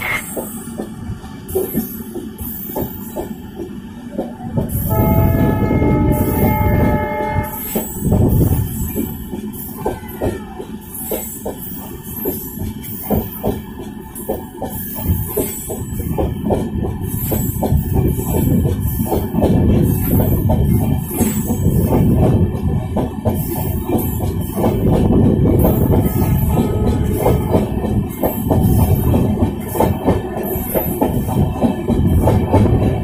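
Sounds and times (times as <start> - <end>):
train rumble: 0.0 - 33.0
train wheels clacking over joints: 0.2 - 33.0.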